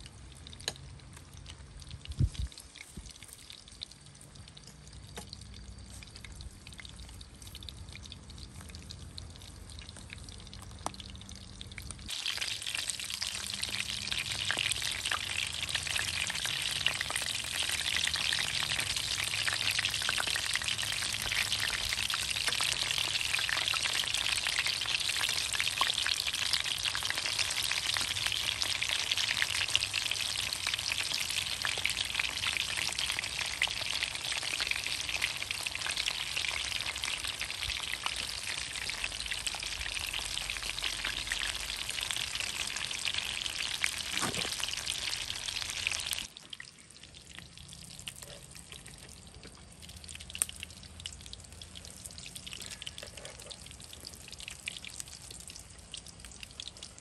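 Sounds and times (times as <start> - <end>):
meatballs sizzling in oil: 0.0 - 57.0.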